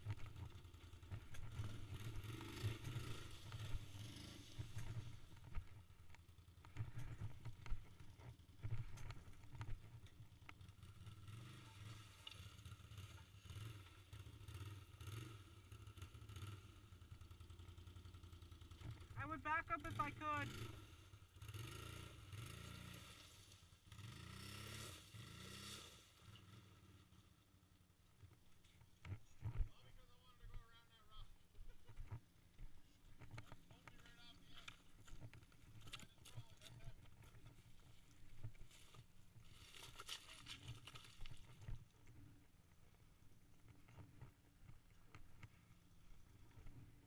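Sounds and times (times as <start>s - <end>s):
atv engine at low revs: 0.0s - 47.0s.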